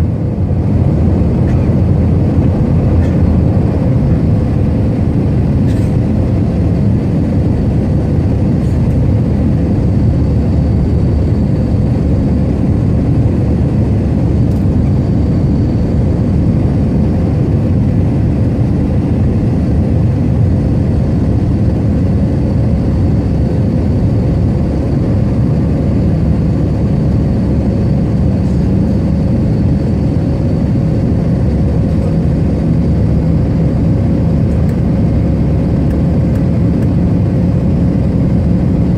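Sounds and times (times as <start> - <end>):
jet engine rumble: 0.0 - 38.9
steady hum: 0.0 - 38.9.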